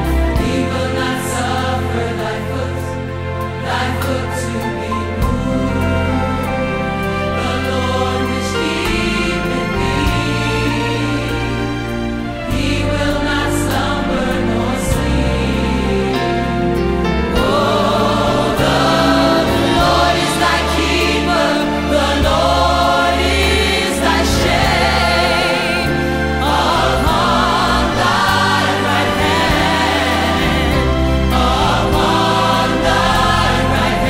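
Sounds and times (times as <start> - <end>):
choir singing sacred song: 0.0 - 34.0
instrumental accompaniment: 0.0 - 34.0.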